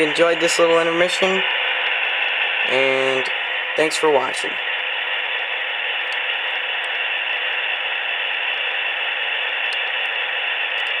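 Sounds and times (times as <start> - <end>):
model locomotive idle hiss: 0.0 - 11.0.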